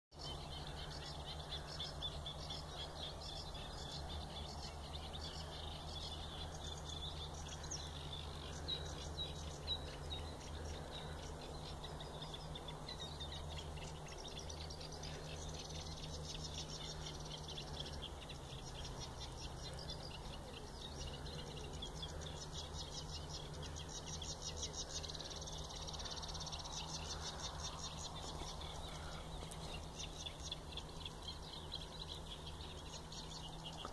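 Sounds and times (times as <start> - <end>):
low hum: 0.2 - 33.9
warblers chattering song: 0.2 - 33.9.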